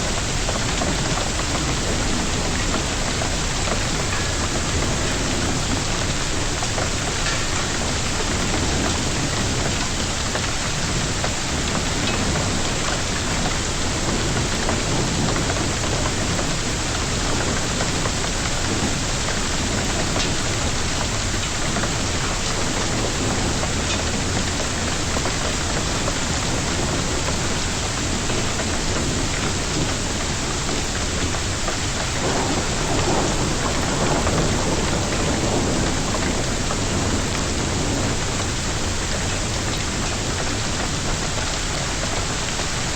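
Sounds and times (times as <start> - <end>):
heavy rain and hail: 0.0 - 42.9.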